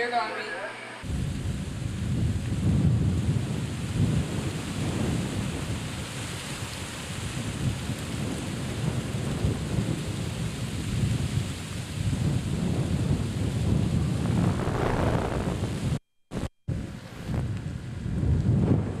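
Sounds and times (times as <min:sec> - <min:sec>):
wind buffeting microphone: 0:01.0 - 0:19.0.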